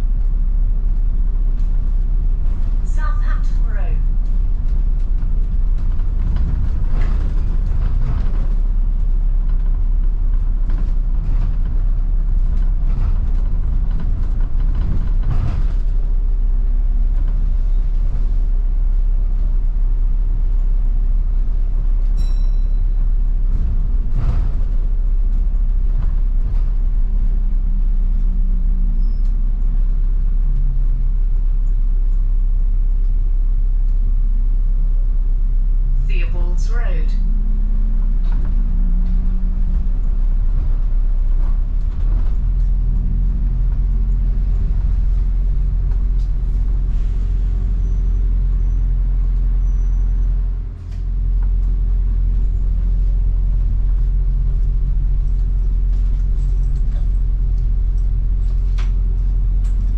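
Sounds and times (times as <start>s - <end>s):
bus body knocks and rattles: 0.0s - 31.8s, 37.3s - 59.9s
bus drivetrain and road rumble: 0.0s - 59.9s.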